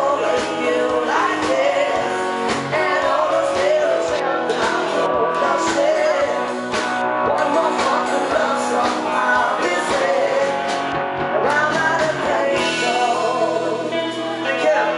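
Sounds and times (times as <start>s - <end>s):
rock band music: 0.0s - 14.9s.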